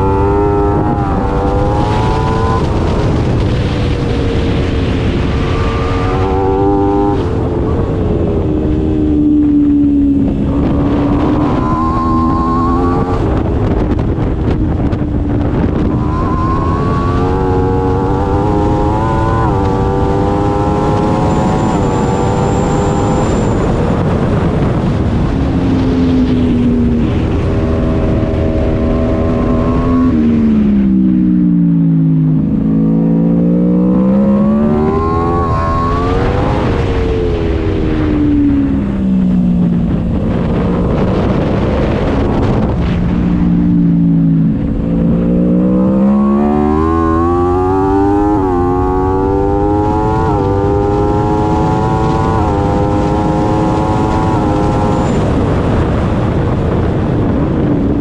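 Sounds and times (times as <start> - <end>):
motorcycle engine revving: 0.0 - 58.0
wind on microphone: 0.0 - 58.0.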